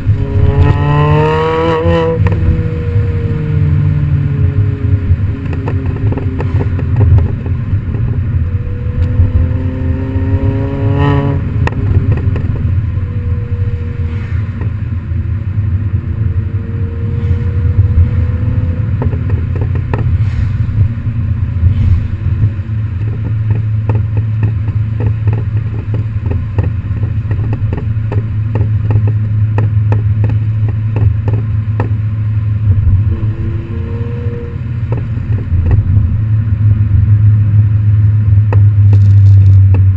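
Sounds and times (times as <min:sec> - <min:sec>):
car engine revving through exhaust: 0:00.0 - 0:39.9.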